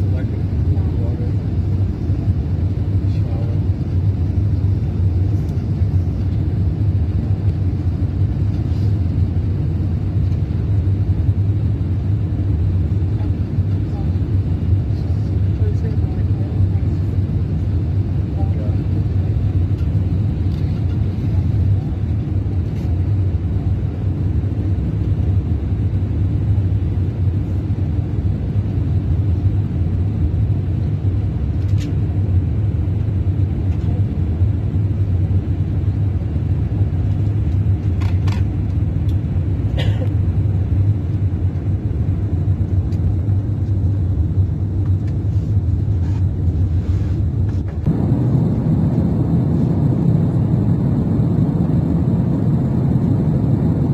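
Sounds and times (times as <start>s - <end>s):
airliner cabin engine rumble: 0.0s - 53.9s.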